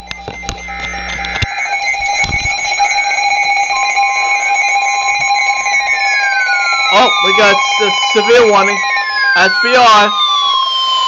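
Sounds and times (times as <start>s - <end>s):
warning tone: 0.0s - 11.0s
weather radio alert alarms: 0.0s - 11.0s.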